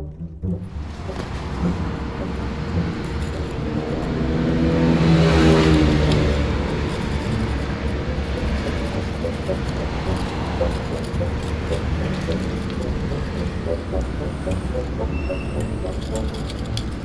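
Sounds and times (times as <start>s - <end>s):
scooter engine revving: 0.6s - 17.0s.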